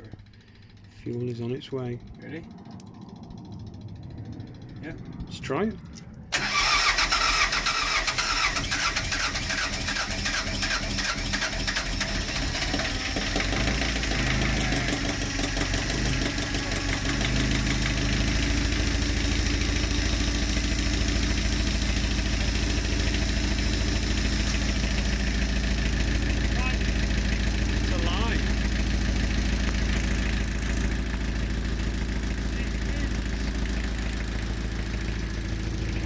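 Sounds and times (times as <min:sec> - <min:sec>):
diesel engine cranking and starting: 0:00.0 - 0:36.0
diesel engine idling: 0:00.0 - 0:36.0.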